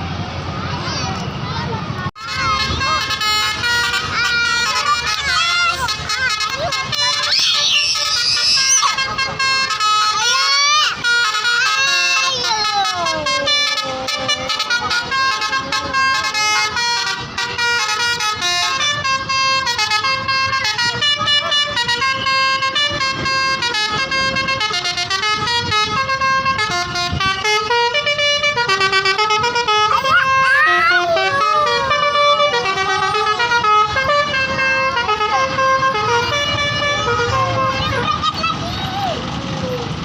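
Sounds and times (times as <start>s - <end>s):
multi-tone bus horn melody: 2.2s - 40.0s.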